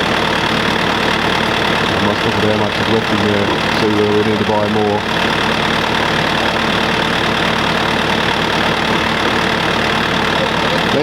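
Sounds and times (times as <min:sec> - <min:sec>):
concrete mixer engine running: 0:00.0 - 0:11.0.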